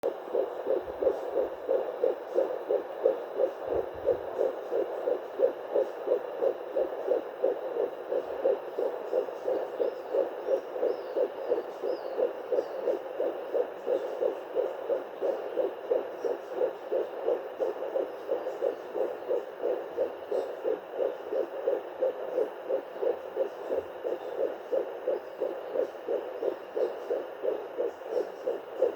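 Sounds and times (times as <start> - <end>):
fetal heartbeat through doppler: 0.0 - 28.9.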